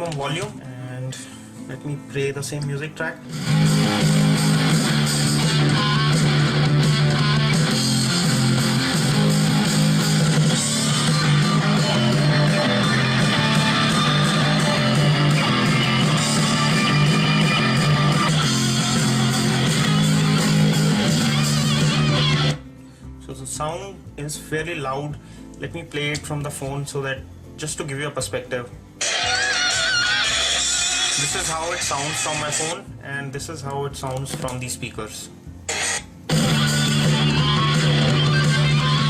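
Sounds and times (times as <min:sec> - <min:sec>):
guitar music through speakers: 0:00.0 - 0:39.0.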